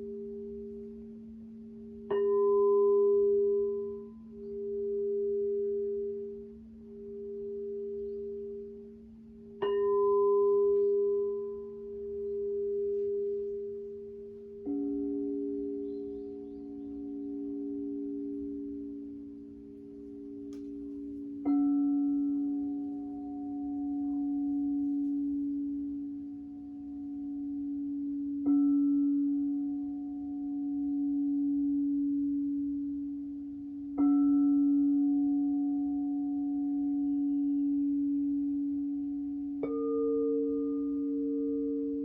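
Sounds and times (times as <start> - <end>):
higher singing bowl tone: 0.0 - 42.0
singing bowl ringing low tone: 0.0 - 42.0.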